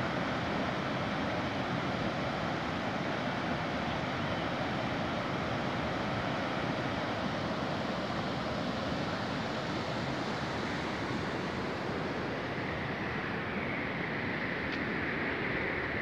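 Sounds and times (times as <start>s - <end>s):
river rushing through rapids: 0.0s - 16.0s.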